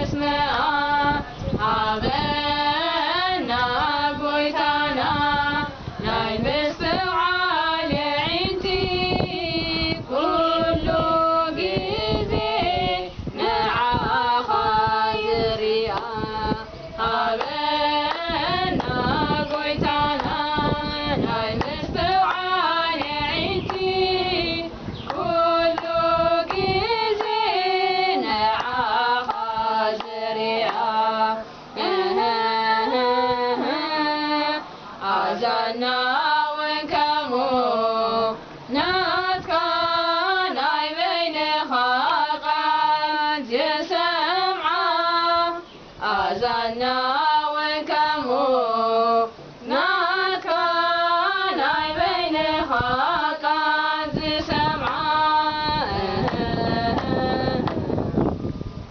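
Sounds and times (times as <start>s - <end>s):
women singing a hymn: 0.0s - 58.4s.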